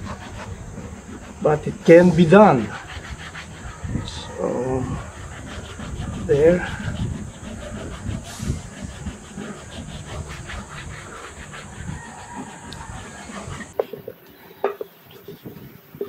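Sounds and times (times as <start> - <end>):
eraser scrubbing leather: 0.0 - 14.0.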